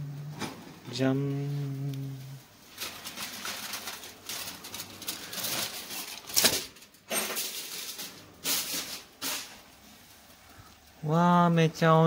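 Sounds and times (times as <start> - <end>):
aluminium foil crinkling: 0.1 - 12.0.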